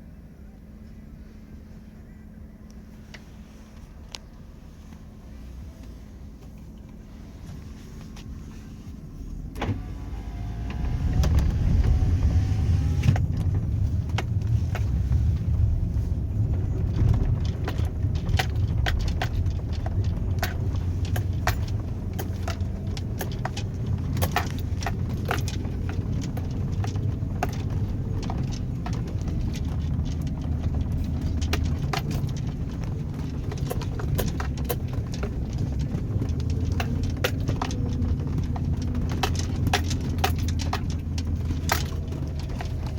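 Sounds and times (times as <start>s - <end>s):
truck engine drone: 0.0s - 42.9s
truck rattling over rough ground: 1.6s - 42.9s.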